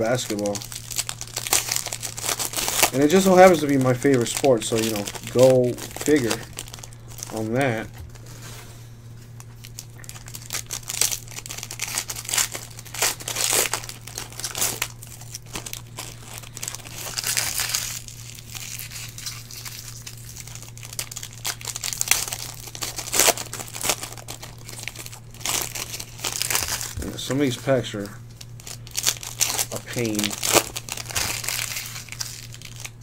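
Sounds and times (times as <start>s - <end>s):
foil wrappers crinkling and tearing: 0.0s - 8.6s, 9.2s - 33.0s.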